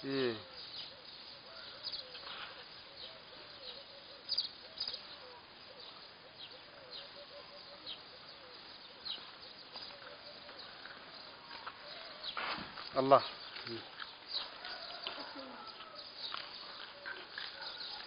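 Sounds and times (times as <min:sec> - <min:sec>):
birds chirping: 0:00.0 - 0:18.0
steady outdoor hiss: 0:00.0 - 0:18.0.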